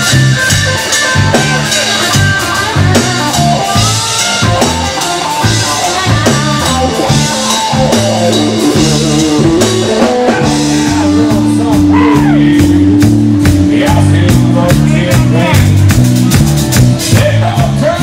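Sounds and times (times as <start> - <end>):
drum kit beat: 0.0 - 18.0
live country-rock band: 0.0 - 18.0.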